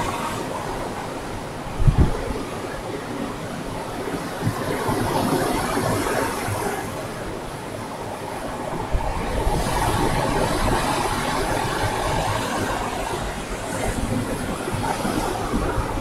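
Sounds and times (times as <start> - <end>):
ocean surf on sand: 0.0 - 16.0
wind buffeting microphone: 0.0 - 16.0.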